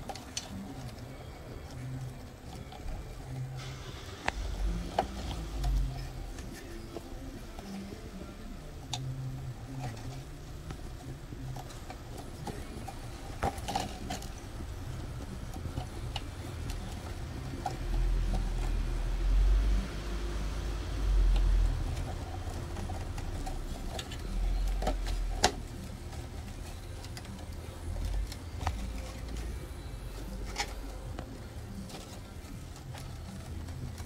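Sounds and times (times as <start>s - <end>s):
plastic parts clicking and tapping: 0.0s - 3.6s, 4.2s - 19.0s, 19.9s - 34.0s.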